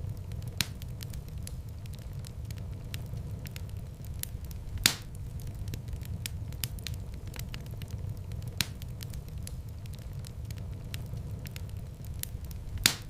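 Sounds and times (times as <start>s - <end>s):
loud fire pops: 0.0s - 13.0s
wood fire crackling: 0.0s - 13.0s.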